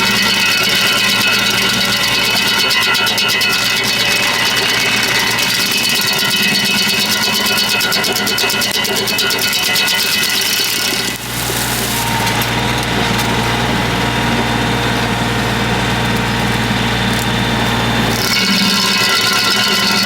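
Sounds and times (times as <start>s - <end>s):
stump grinder: 0.0s - 20.0s
tractor engine running: 0.0s - 20.0s.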